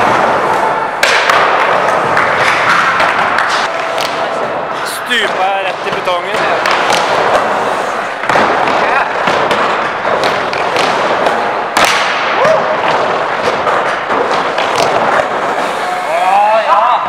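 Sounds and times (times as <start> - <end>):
skateboard wheels rolling on wood: 0.0 - 11.8, 12.4 - 17.0.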